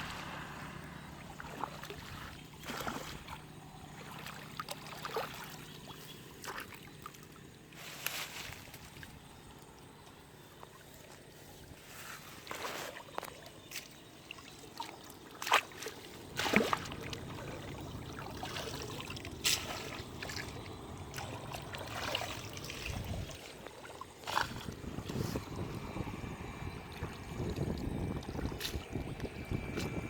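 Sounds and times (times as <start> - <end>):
water sloshing and splashing: 0.0 - 30.0.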